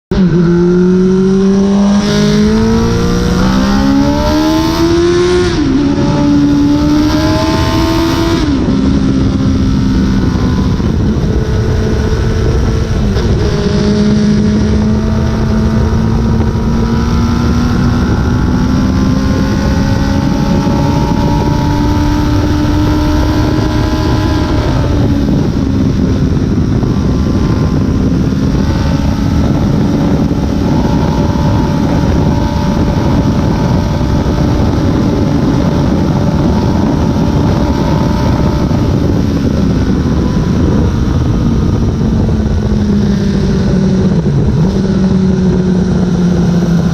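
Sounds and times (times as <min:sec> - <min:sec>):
motorcycle engine accelerating: 0:00.1 - 0:46.9.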